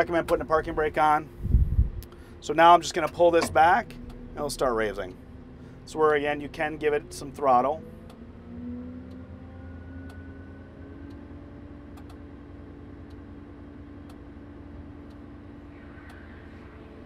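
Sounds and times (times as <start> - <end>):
diesel engine at raised revs: 0.0 - 17.0.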